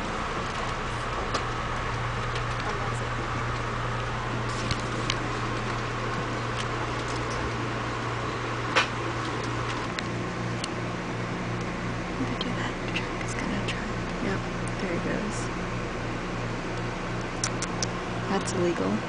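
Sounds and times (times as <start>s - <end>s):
train car rumbling: 0.0s - 19.0s.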